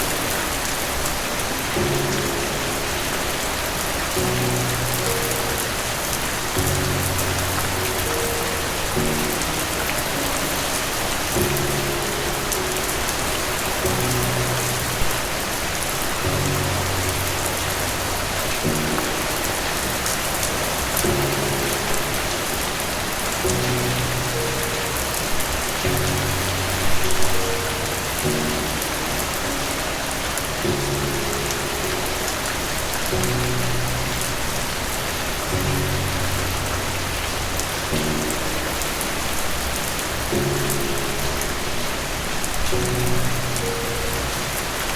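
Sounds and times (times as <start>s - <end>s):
soft slow music: 0.0s - 44.9s
steady rain falling: 0.0s - 44.9s.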